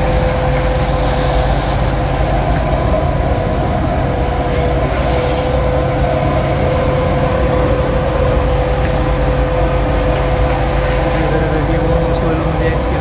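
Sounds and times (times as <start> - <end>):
vacuum truck whine and rumble: 0.0 - 13.0.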